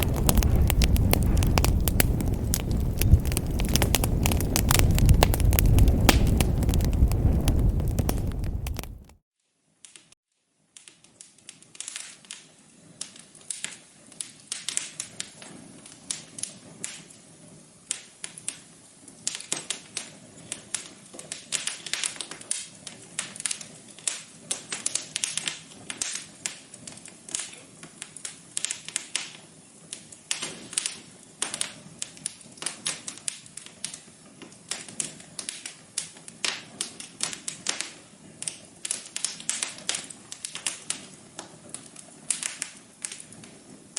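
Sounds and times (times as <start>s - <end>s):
wood fire crackling: 0.0s - 9.2s, 11.2s - 43.9s.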